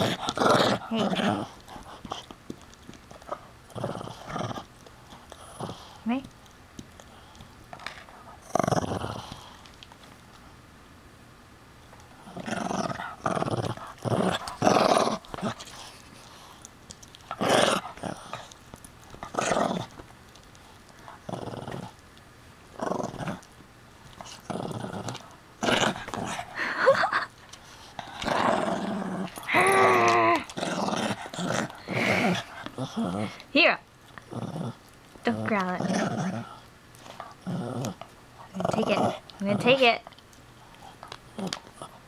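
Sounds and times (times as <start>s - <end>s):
puppy growling: 0.0s - 6.3s, 7.0s - 9.8s, 12.1s - 22.0s, 22.7s - 42.0s.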